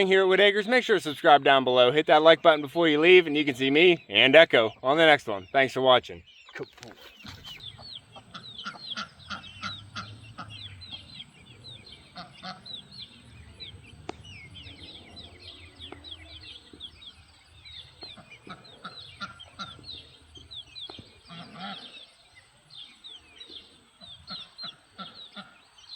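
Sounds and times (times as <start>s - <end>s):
chicks peeping: 0.0s - 25.9s.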